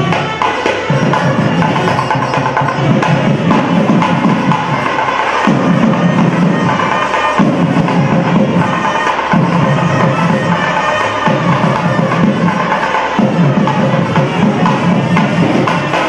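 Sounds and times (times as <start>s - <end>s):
temple drumming and percussion: 0.0s - 16.0s.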